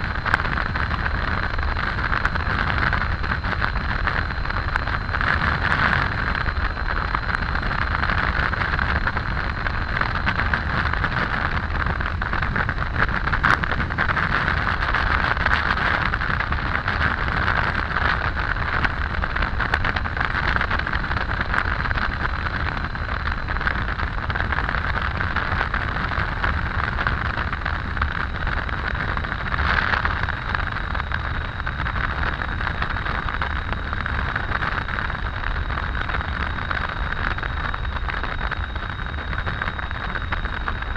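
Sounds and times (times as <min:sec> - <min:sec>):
faint high whine: 0:00.0 - 0:40.9
motorcycle engine drone: 0:00.0 - 0:40.9
wind and road noise: 0:00.0 - 0:40.9.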